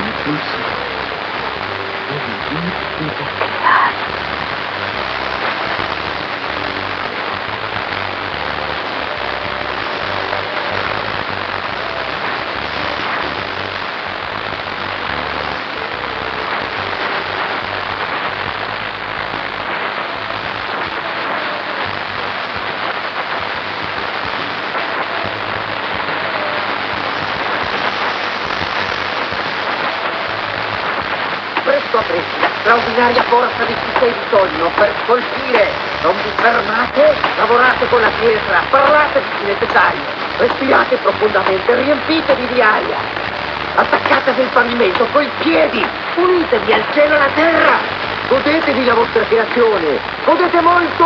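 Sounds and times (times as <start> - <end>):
steady hiss: 0.0 - 51.0.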